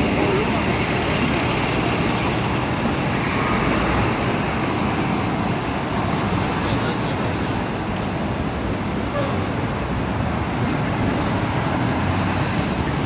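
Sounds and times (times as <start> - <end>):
murmur of pedestrians: 0.0 - 13.0
passing traffic: 0.0 - 13.0.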